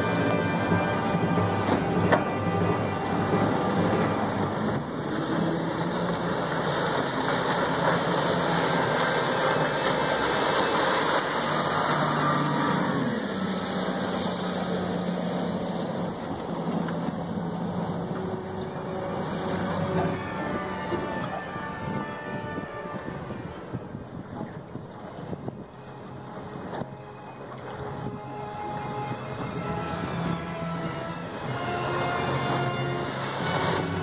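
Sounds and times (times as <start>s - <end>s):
boat passing close by: 0.0s - 34.0s
outboard boat engines running: 0.0s - 34.0s
wind and water rushing: 0.0s - 34.0s.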